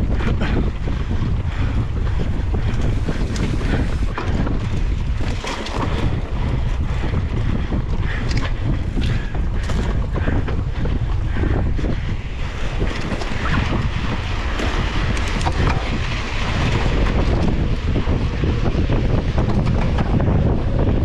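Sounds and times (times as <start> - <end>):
bike rattling over ground: 0.0 - 21.0
wind buffeting microphone: 0.0 - 21.0.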